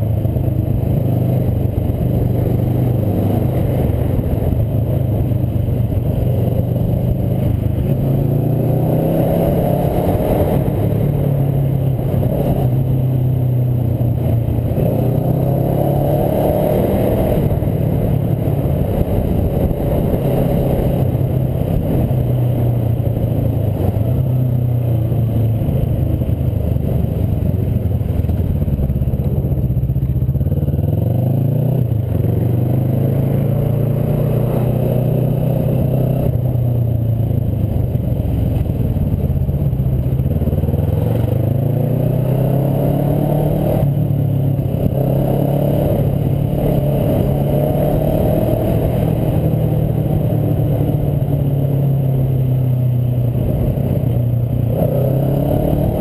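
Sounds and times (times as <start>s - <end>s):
scooter engine running: 0.0s - 34.7s, 35.9s - 56.0s.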